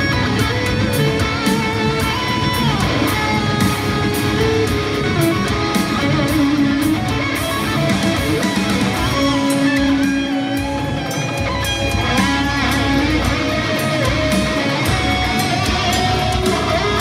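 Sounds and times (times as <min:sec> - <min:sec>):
band backing track: 0:00.0 - 0:17.0
distorted electric guitar lead: 0:00.0 - 0:17.0.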